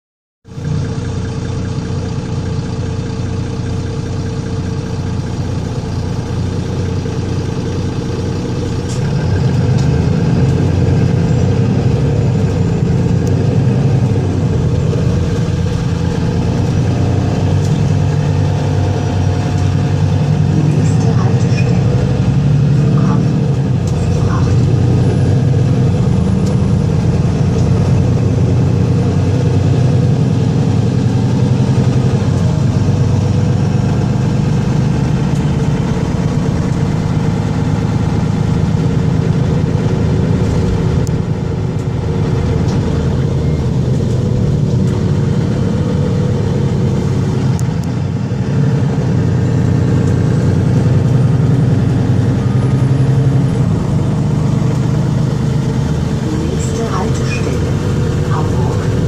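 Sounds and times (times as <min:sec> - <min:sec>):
bus engine drone: 0:00.4 - 0:59.0
road and tyre noise: 0:00.4 - 0:59.0.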